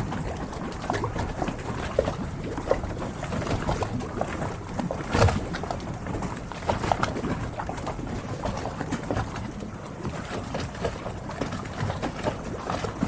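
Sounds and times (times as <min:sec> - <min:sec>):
boat knocks and creaks: 0:00.0 - 0:13.0
water lapping against boats: 0:00.0 - 0:13.0.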